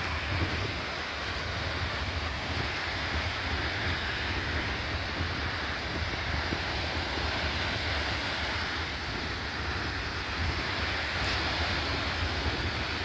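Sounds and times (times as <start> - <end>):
steady rushing roar: 0.0 - 13.0
wind buffeting microphone: 0.0 - 13.0.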